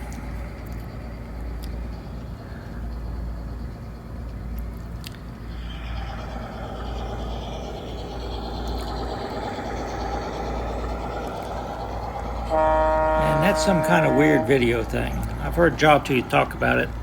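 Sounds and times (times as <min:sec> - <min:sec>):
model train rumbling: 0:00.0 - 0:17.0.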